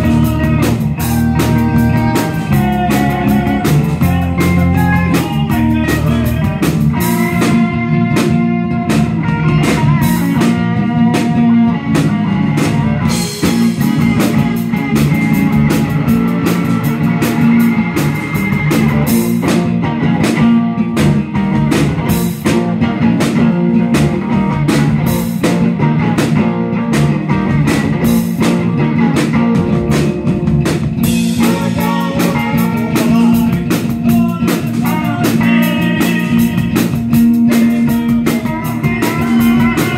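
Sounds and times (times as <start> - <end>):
electric bass: 0.0 - 39.9
electric guitar: 0.0 - 39.9.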